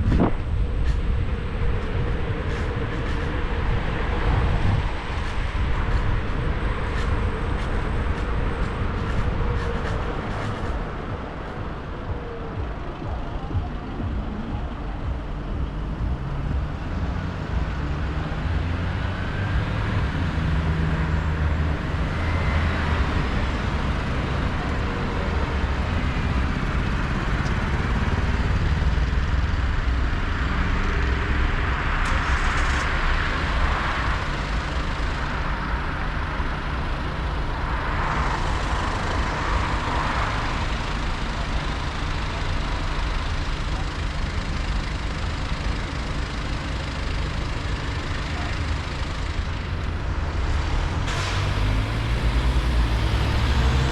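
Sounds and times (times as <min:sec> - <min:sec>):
road traffic rumble: 0:00.0 - 0:53.9
vehicles passing: 0:00.0 - 0:53.9.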